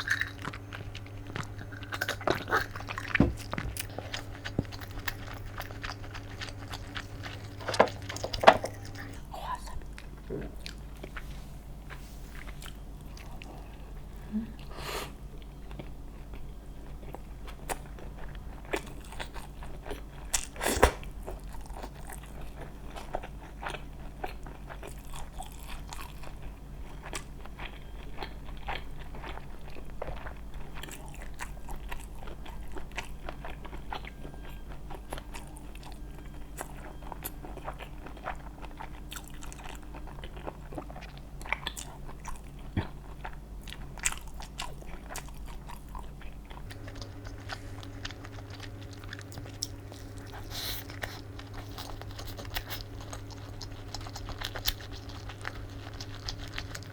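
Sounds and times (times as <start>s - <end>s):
crunchy chewing: 0.0s - 56.9s.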